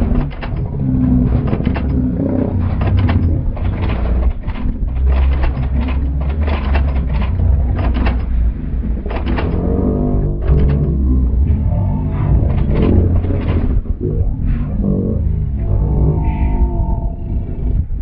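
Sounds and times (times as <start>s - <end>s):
lions snarling and growling: 0.0s - 18.0s
steady low rumble: 0.0s - 18.0s.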